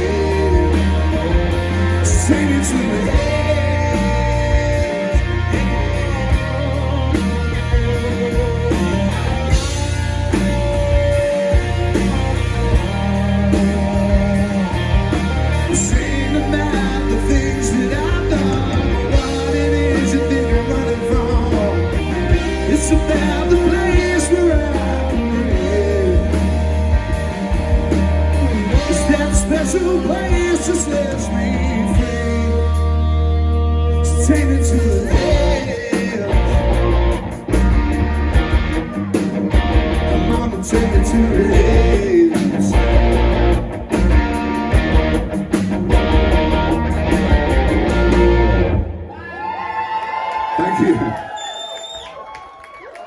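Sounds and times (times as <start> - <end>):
live rock band music: 0.0 - 49.2.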